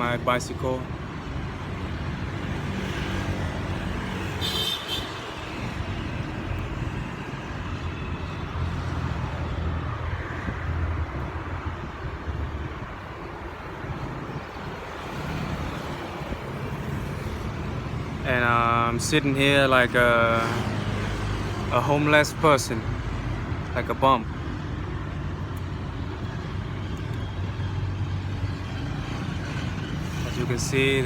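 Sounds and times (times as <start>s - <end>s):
road traffic hum: 0.0s - 31.0s.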